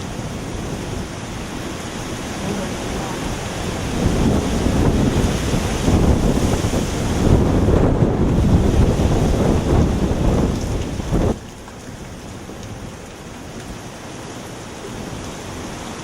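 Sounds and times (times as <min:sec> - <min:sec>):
wind buffeting microphone: 0:00.0 - 0:13.9
rain hiss: 0:00.0 - 0:16.0.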